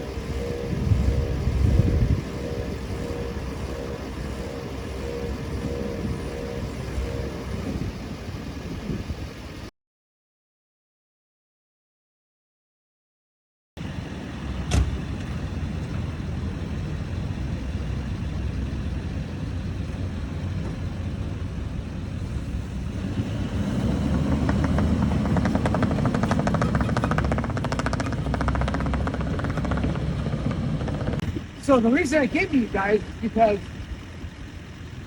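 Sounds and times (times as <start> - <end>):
vehicle engine running: 0.0 - 9.7, 13.8 - 35.0.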